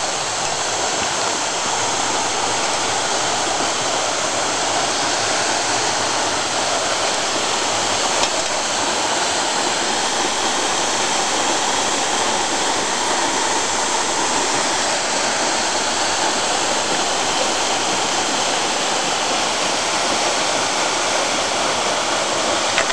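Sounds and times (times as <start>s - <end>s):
mountain stream: 0.0s - 22.9s
waterfall pouring onto rocks: 0.0s - 22.9s.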